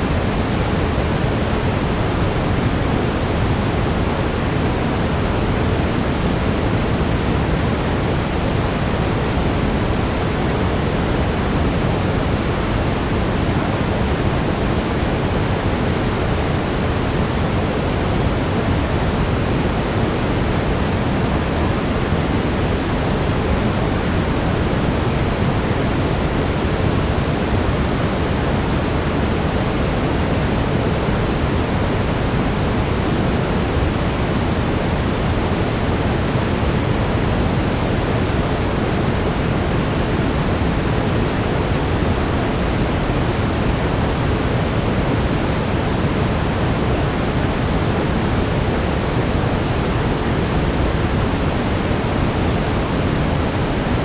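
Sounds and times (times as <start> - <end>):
brown noise: 0.0 - 54.0.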